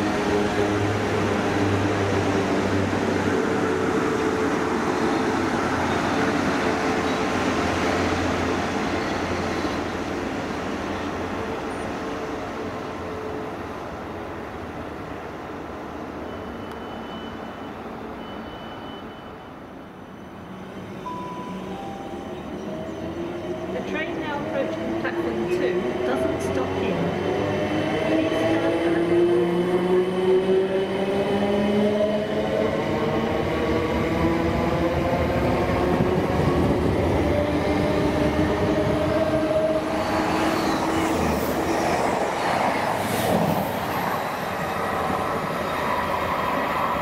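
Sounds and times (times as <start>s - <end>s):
passenger train passing: 0.0s - 47.0s.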